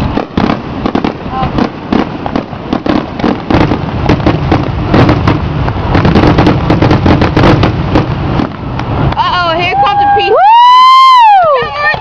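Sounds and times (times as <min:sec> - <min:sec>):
fireworks booms and crackles: 0:00.0 - 0:10.9
continuous low rumble: 0:00.0 - 0:12.0.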